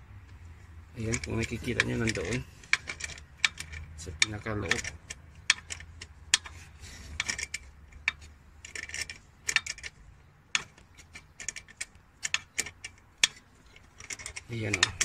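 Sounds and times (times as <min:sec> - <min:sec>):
wrench clicking on bolts: 0:01.0 - 0:15.0.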